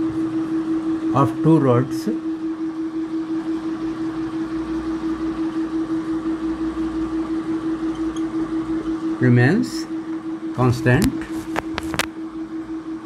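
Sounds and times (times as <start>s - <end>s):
pulsing machine hum: 0.0s - 13.0s.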